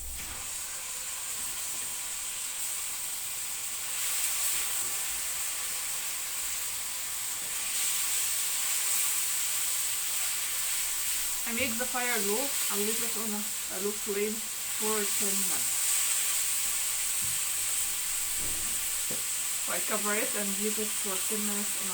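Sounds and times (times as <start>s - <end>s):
chicken sizzling in a frying pan: 0.0s - 21.9s.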